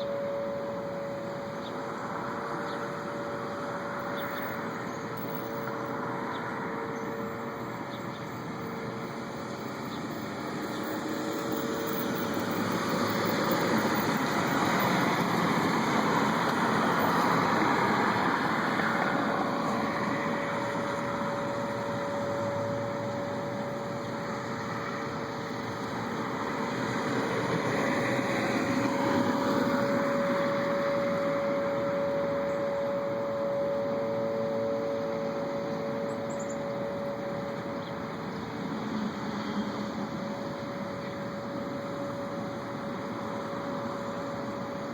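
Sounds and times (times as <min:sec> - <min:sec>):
far-off mechanical drone: 0:00.0 - 0:44.9.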